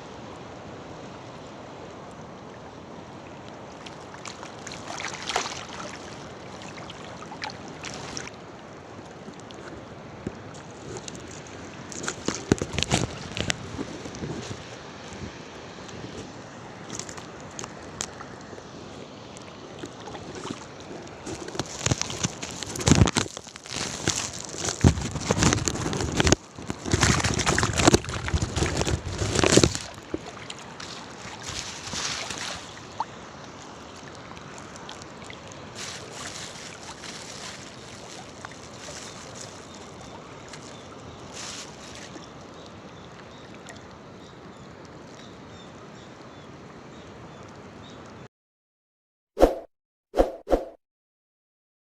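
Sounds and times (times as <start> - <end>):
wind gusts: 0.0 - 41.9.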